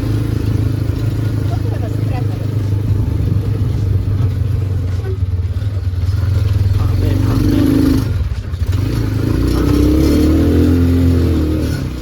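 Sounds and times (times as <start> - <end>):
vehicle ride rumble: 0.0 - 12.0.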